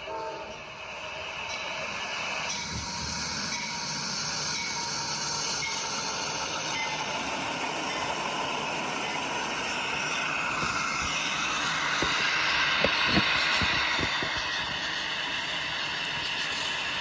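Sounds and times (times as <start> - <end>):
model train whirring: 0.0 - 17.0
wheels clicking on rails: 0.0 - 17.0.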